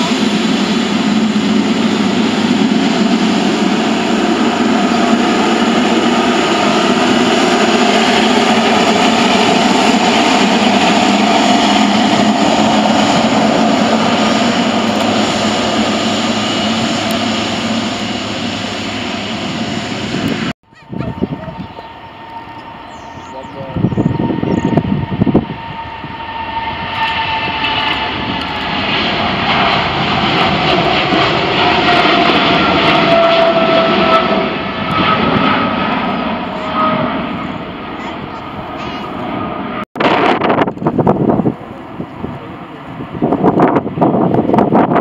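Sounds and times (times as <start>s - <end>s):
jet engine whine: 0.0s - 45.0s.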